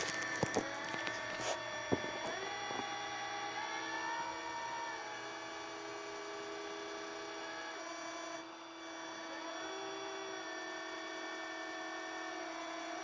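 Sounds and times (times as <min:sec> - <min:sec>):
winch whining under load: 0:00.0 - 0:13.0.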